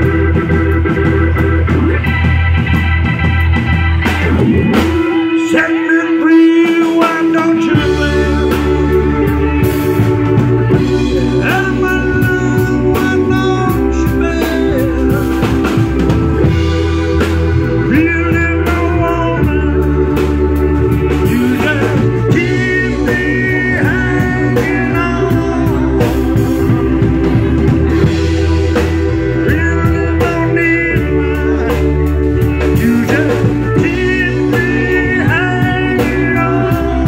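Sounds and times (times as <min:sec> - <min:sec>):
bass guitar: 0:00.0 - 0:37.0
drum kit: 0:00.0 - 0:37.0
electric guitar: 0:00.0 - 0:37.0
organ and synth keyboards: 0:00.0 - 0:37.0.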